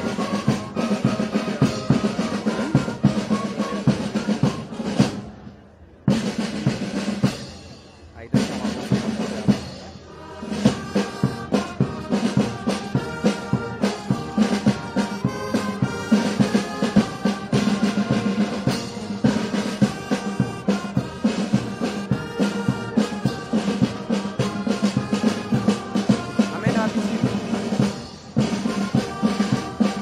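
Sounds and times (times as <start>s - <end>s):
steady drum beat: 0.0s - 5.3s, 6.1s - 30.0s
brass band playing a march: 0.0s - 30.0s.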